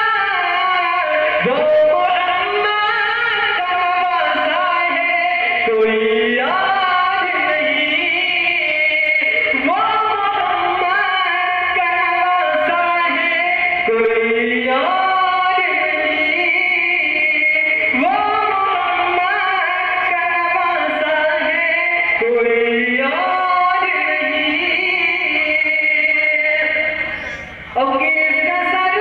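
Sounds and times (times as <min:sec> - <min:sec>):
man singing into a microphone: 0:00.0 - 0:29.0.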